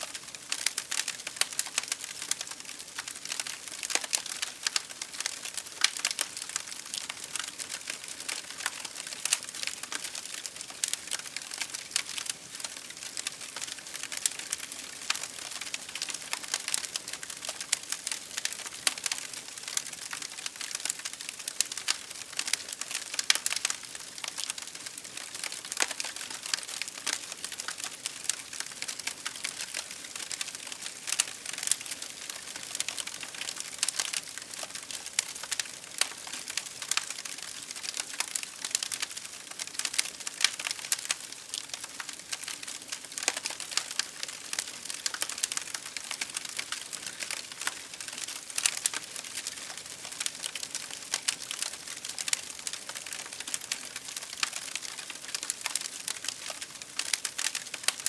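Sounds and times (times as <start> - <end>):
wood fire crackling: 0.1 - 58.0.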